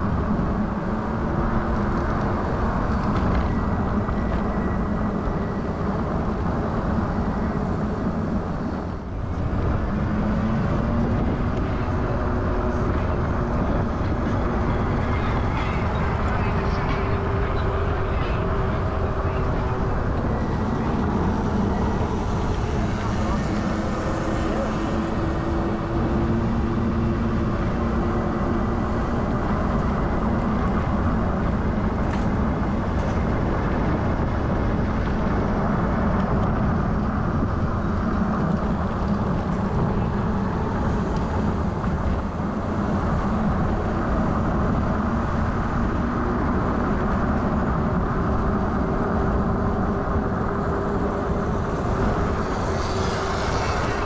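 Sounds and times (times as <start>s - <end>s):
wind and road noise on microphone: 0.0s - 54.0s.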